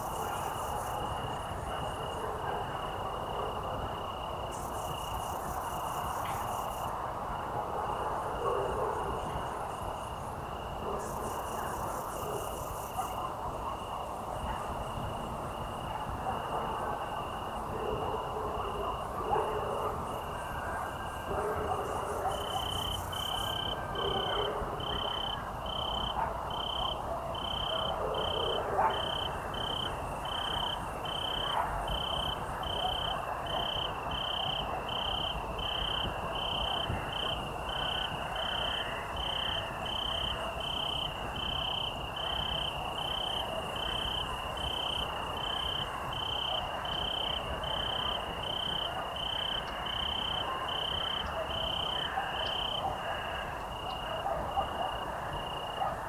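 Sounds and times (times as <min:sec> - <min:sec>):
crickets chirping: 0:00.0 - 0:07.0, 0:07.8 - 0:56.0.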